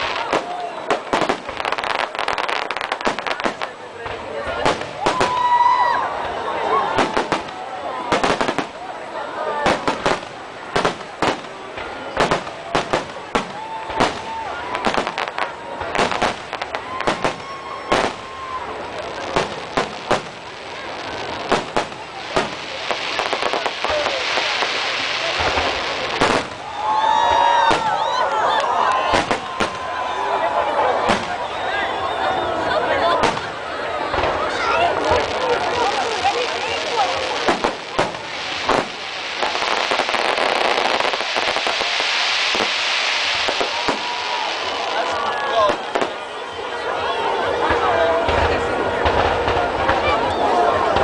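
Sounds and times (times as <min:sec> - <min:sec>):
fireworks bangs: 0:00.0 - 0:08.9, 0:09.5 - 0:31.6, 0:33.0 - 0:46.6, 0:47.5 - 0:51.0
fireworks crackling: 0:00.0 - 0:32.0, 0:32.8 - 0:51.0.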